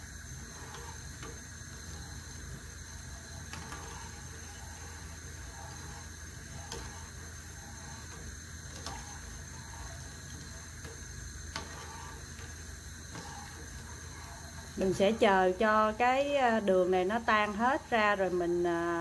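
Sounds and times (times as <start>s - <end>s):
steady low hum: 0.0s - 19.0s
metal spoon stirring in saucepan: 0.3s - 16.5s.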